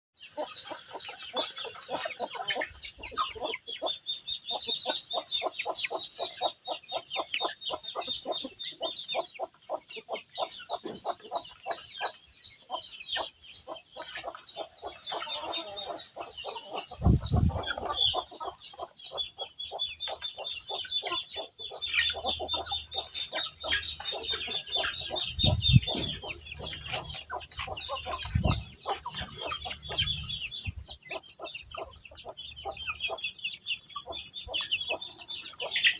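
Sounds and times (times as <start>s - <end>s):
chickens clucking: 0.2s - 35.9s.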